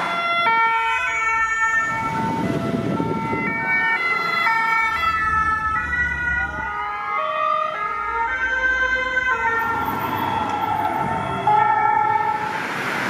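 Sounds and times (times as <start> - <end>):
two-tone sirens: 0.0 - 13.0.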